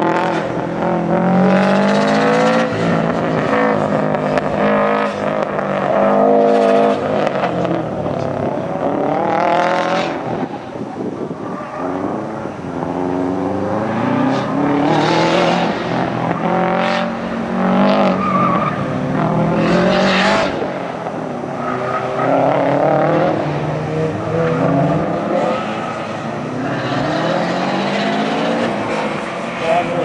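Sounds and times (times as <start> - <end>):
tires squealing: 0.0 - 30.0.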